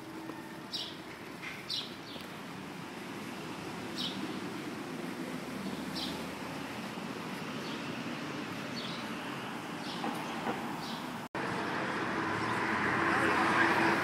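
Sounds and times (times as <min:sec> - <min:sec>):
city street noise: 0:00.0 - 0:14.0.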